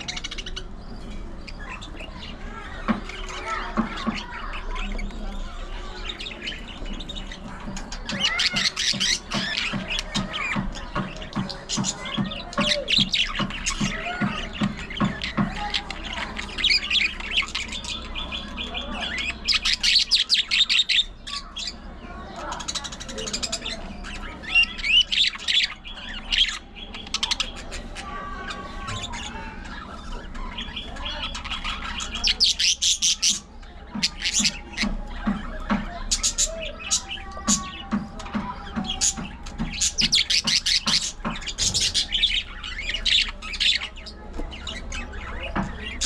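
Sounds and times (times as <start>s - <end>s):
budgerigars chattering: 0.0s - 46.0s.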